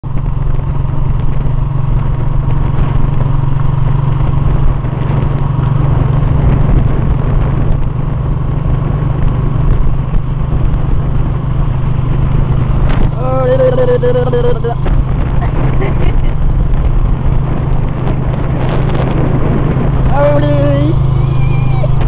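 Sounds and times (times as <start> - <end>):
small motorcycle engine running: 0.0 - 22.0
wind noise on microphone: 0.0 - 22.0.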